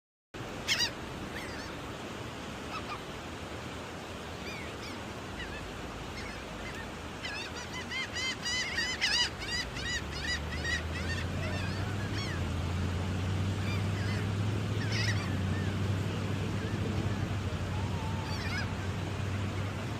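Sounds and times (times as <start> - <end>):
gulls calling: 0.4 - 19.9
low steady hum: 0.4 - 19.9.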